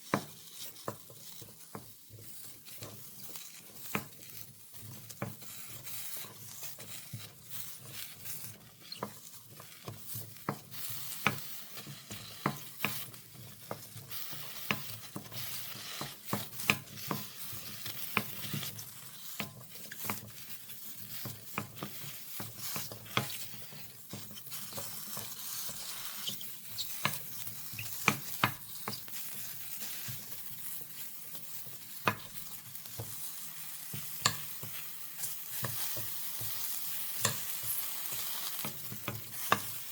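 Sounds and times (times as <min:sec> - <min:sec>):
mushrooms sizzling in a pan: 0:00.0 - 0:39.9
utensil tapping and scraping pan: 0:00.0 - 0:39.9.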